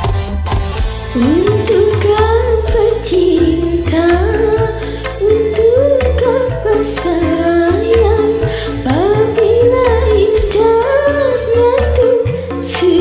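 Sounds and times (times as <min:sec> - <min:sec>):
backing track with beat and bass: 0:00.0 - 0:13.0
person singing karaoke: 0:00.0 - 0:13.0.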